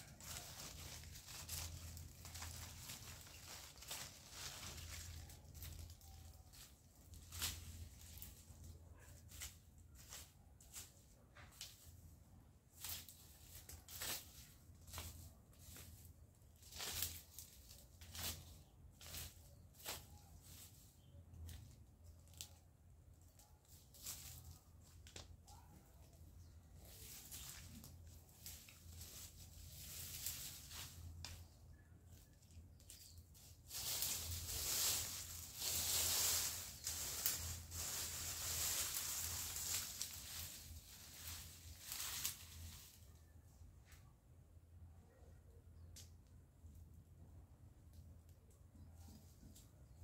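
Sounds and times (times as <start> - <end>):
raking dry leaves and twigs: 0.0 - 43.3.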